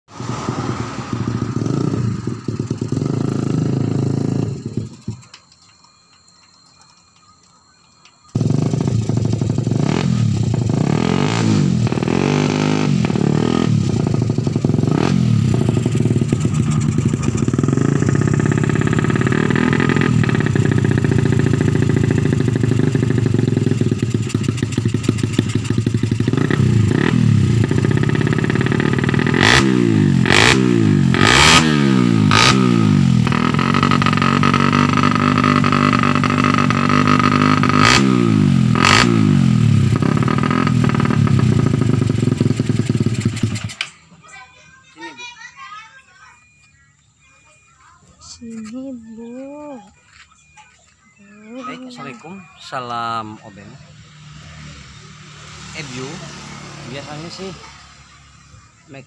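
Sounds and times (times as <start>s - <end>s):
motorcycle engine revving: 0.1s - 6.9s, 8.2s - 44.4s, 47.6s - 59.0s.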